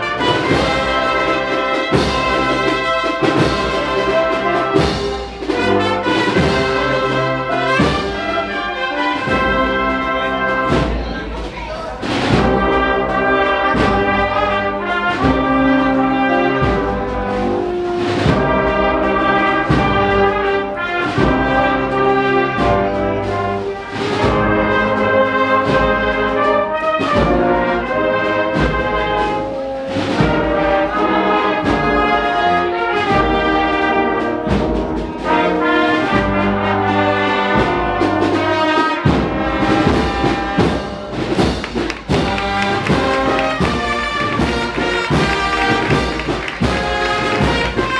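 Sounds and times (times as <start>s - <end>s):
brass marching band: 0.0s - 47.9s.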